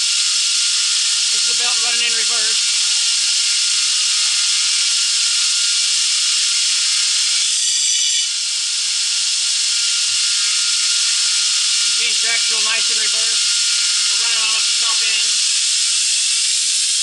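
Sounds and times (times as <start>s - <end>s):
belt grinder hiss: 0.0s - 17.0s
faint motor whine: 0.0s - 17.0s.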